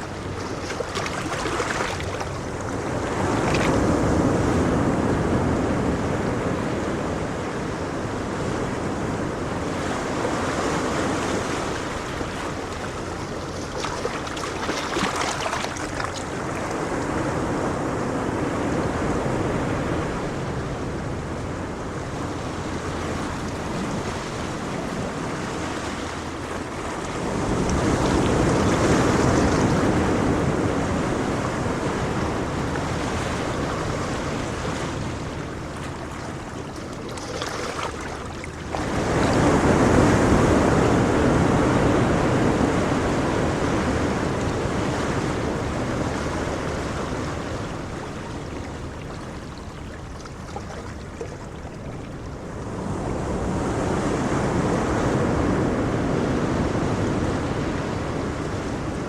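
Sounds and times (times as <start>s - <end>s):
low wind rumble: 0.0s - 59.0s
ocean waves washing onto shore: 0.0s - 59.0s.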